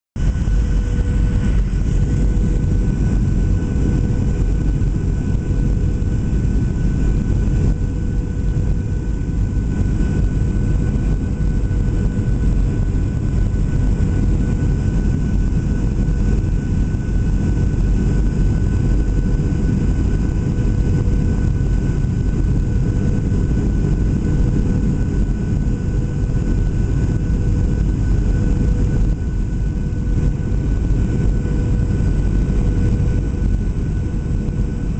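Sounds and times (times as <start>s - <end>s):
airplane cabin rumble: 0.2s - 34.9s.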